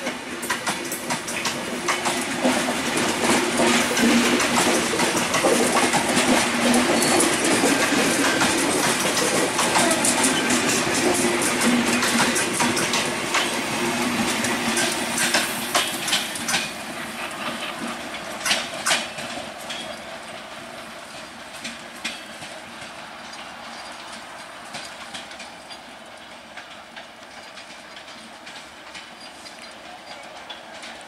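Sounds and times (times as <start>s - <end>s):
train wheels clicking over rail joints: 0.0s - 31.0s.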